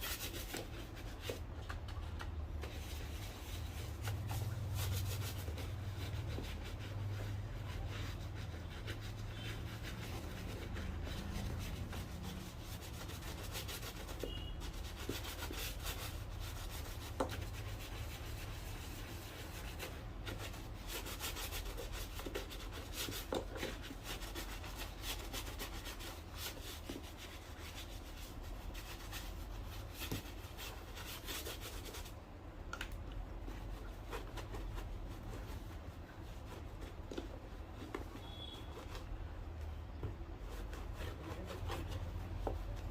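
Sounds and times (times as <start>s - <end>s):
rubbing strokes on a shoe: 0.0s - 1.7s, 2.3s - 32.3s, 33.3s - 39.2s, 40.0s - 42.9s.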